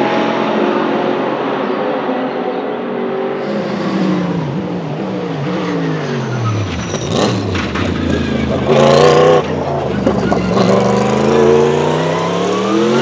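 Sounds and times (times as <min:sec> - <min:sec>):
race car engine downshifting: 0:00.0 - 0:13.0.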